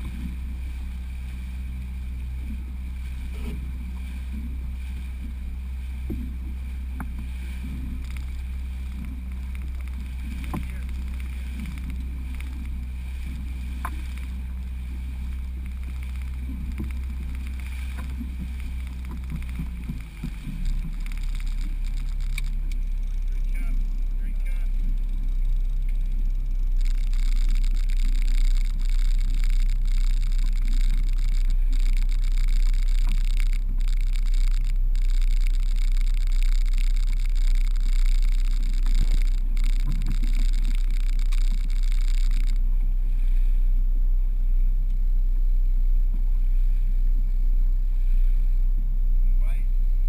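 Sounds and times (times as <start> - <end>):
boat engine humming: 0.0 - 50.0.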